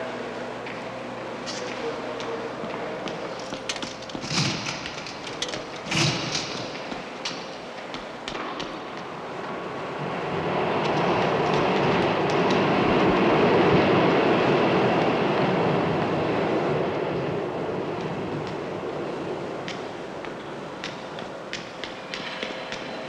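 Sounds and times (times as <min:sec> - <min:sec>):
subway train passing: 0:00.0 - 0:23.0.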